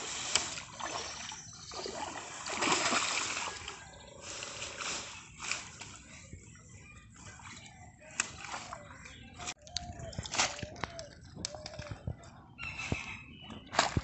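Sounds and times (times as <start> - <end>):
water splashing and sloshing: 0.0 - 6.5, 7.1 - 12.2, 13.5 - 14.0.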